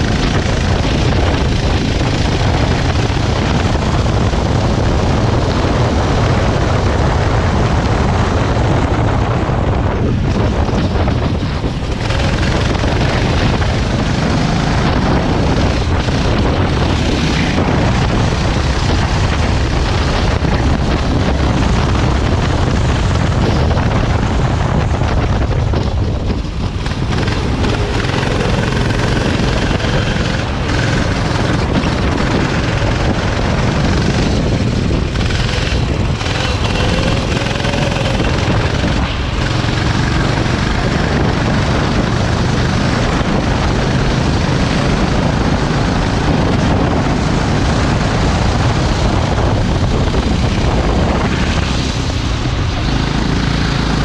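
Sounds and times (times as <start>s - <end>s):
go-kart engine running: 0.0s - 54.0s
wind rush on microphone: 0.0s - 54.0s.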